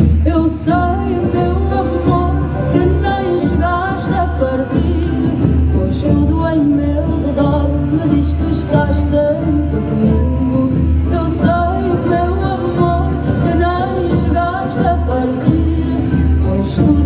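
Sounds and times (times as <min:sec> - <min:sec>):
band playing a song: 0:00.0 - 0:17.0
lead singer singing: 0:00.0 - 0:17.0.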